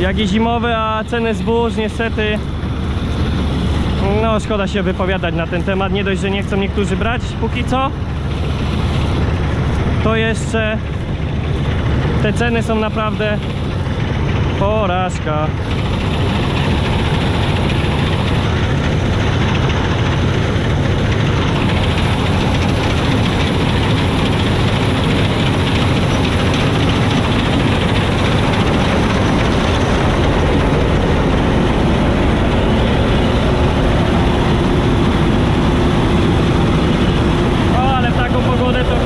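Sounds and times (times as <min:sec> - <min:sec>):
combine harvester droning: 0:00.0 - 0:39.0.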